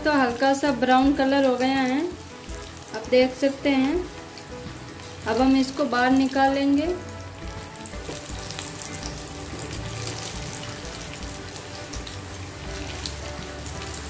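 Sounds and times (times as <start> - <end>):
pastries deep-frying in oil: 0.0 - 14.0.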